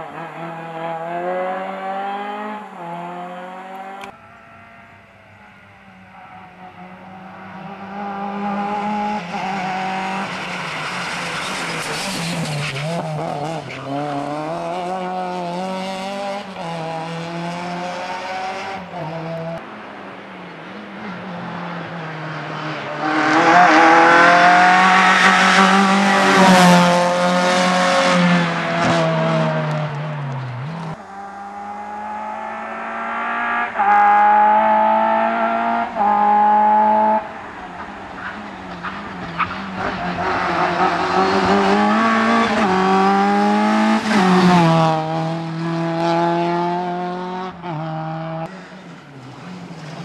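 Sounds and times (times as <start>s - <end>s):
rally car engine revving: 6.1s - 19.6s, 20.8s - 50.0s.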